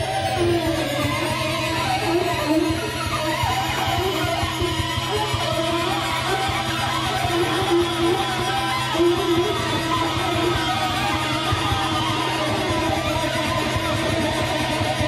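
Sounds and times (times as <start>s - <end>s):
low electric guitar drone: 0.0s - 15.0s.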